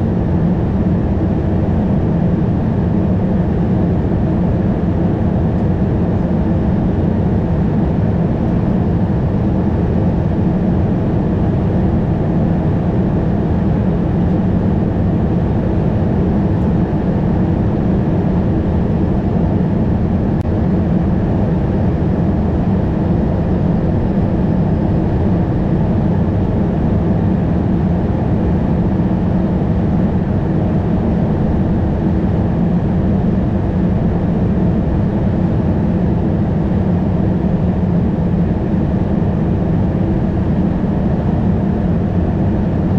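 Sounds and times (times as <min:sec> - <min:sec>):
aircraft cockpit engine and air rush: 0:00.0 - 0:42.9.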